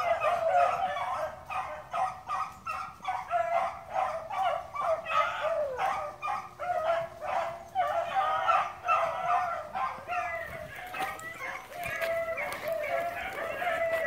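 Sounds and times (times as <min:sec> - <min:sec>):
dogs barking: 0:00.0 - 0:14.0.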